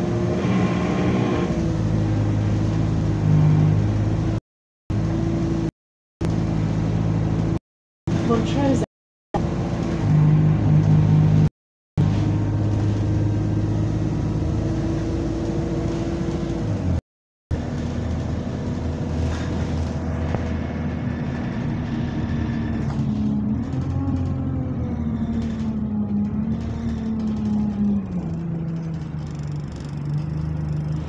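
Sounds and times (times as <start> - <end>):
bus engine droning: 0.0 - 31.0.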